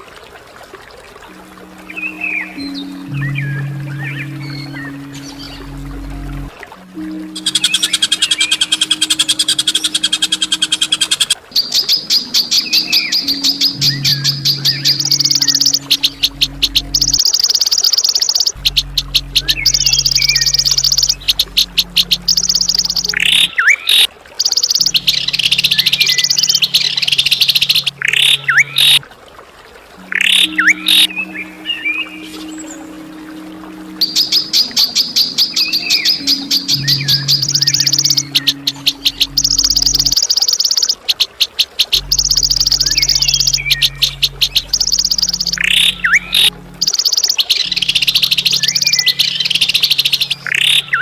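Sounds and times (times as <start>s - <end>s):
low steady hum: 1.1s - 24.0s, 24.7s - 29.2s, 29.9s - 40.9s, 41.8s - 51.0s
high buzzy bird trills: 1.3s - 29.0s, 30.0s - 51.0s.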